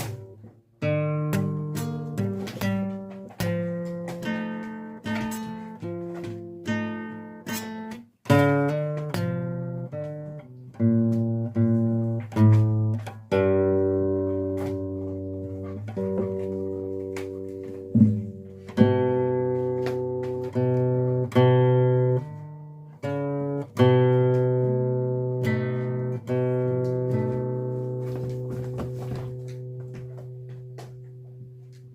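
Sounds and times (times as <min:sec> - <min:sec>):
acoustic guitar chords strummed: 0:00.0 - 0:31.9.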